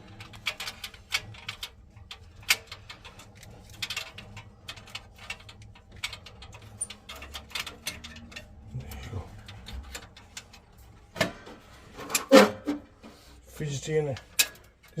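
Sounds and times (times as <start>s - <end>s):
small metal clicks and taps: 0.1s - 11.3s, 14.1s - 15.0s.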